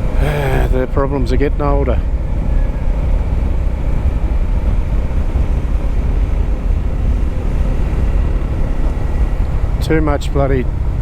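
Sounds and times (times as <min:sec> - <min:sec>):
motorcycle engine and road rumble: 0:00.0 - 0:11.0.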